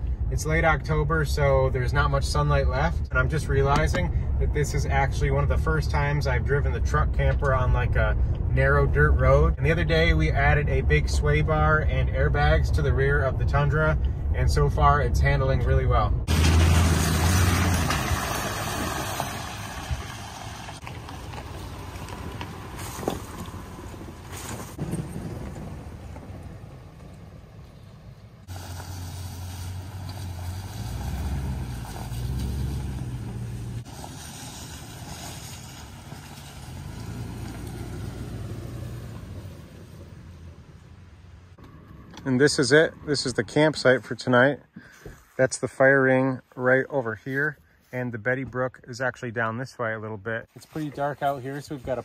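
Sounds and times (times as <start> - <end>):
vehicles driving past outside: 0.0 - 44.6
engine and road noise inside cab: 0.0 - 44.7.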